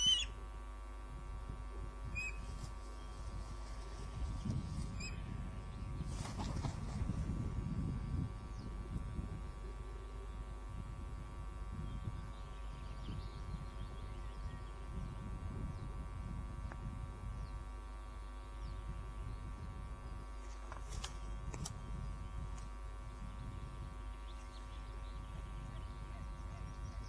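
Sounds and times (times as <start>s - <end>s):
electrical hum and buzz: 0.0s - 27.0s.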